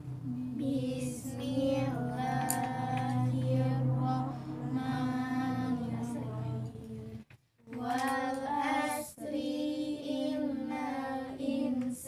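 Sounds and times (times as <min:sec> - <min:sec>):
children chanting in unison: 0:00.0 - 0:07.1, 0:07.7 - 0:12.0.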